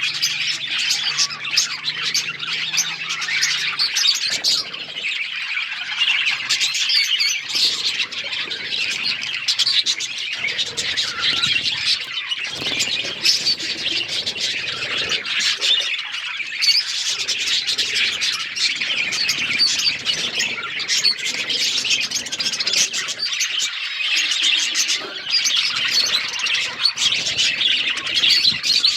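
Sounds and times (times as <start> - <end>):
budgerigars chirping and chattering: 0.0 - 28.9.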